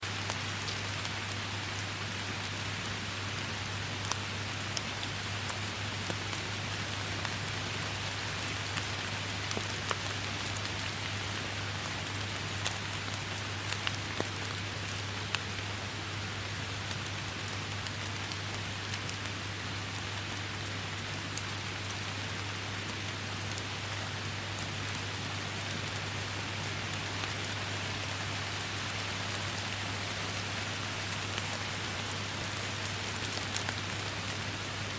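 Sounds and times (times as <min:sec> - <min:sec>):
close raindrops ticking: 0:00.0 - 0:34.9
steady rain in a forest: 0:00.0 - 0:34.9.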